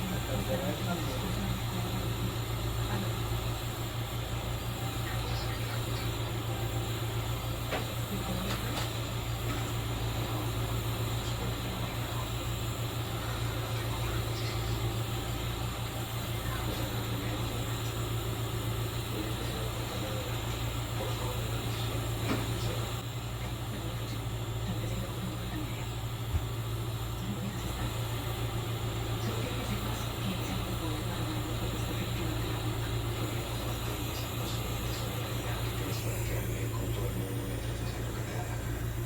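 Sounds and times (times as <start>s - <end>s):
gas torch flame hissing: 0.0s - 39.0s.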